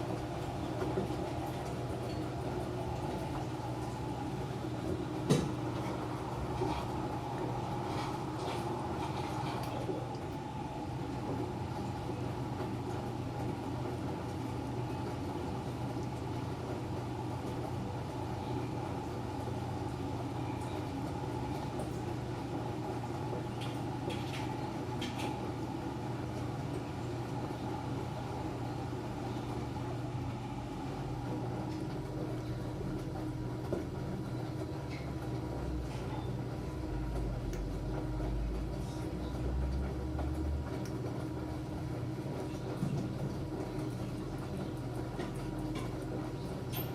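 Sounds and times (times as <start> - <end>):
washing machine motor hum: 0.0 - 46.9.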